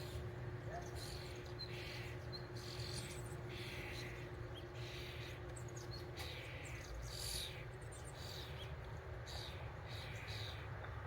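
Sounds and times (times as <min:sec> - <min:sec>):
low background rumble: 0:00.0 - 0:11.0
small birds chirping: 0:00.0 - 0:11.0.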